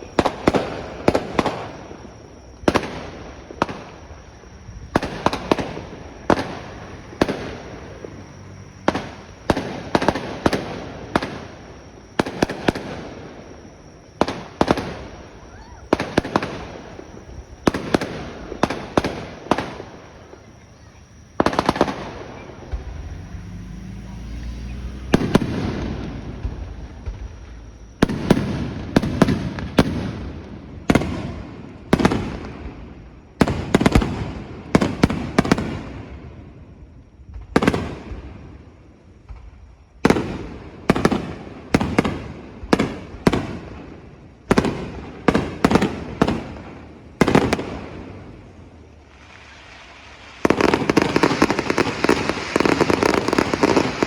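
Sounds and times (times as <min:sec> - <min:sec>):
fireworks bangs with echo: 0:00.0 - 0:23.4, 0:24.0 - 0:54.0.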